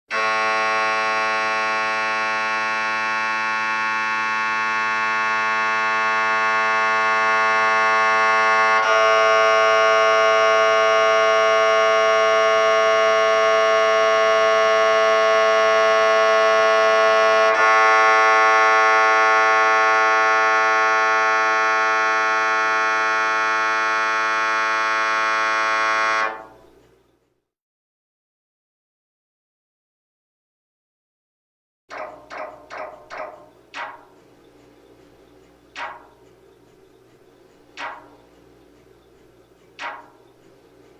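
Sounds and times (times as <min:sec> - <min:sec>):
mri scanner buzzing: 0:00.1 - 0:27.0, 0:31.9 - 0:40.9.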